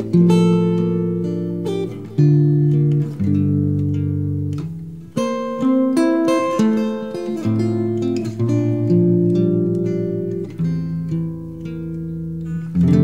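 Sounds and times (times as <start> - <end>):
guitar playing slow chords: 0.0 - 13.0.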